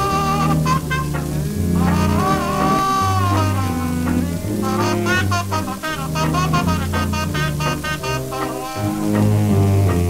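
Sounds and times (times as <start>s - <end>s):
horn holding long note: 0.0s - 10.0s
steady bass line: 0.0s - 10.0s.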